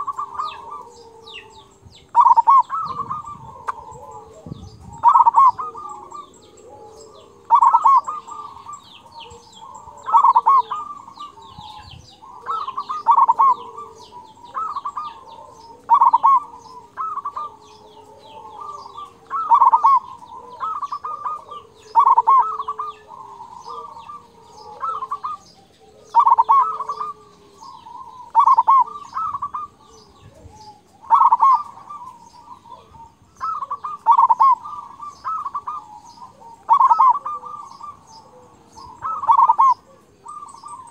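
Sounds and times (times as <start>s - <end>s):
dove cooing: 0.0s - 40.9s
small birds chirping: 0.0s - 40.9s.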